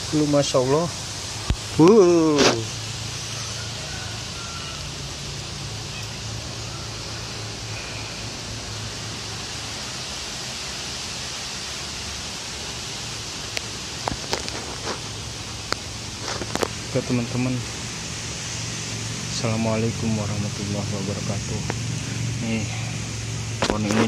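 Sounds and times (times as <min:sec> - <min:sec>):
strong wind through trees: 0:00.0 - 0:24.0.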